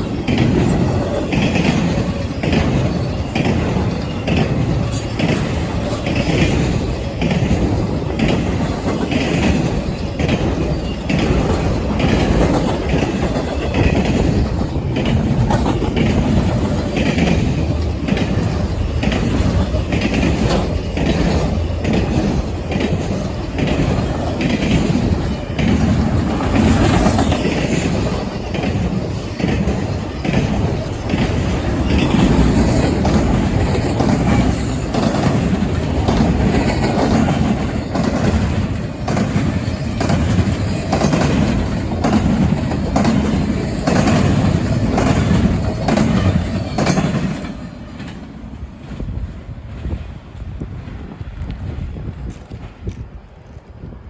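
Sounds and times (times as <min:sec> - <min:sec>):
train wheels clattering over rail joints: 0:00.0 - 0:54.0.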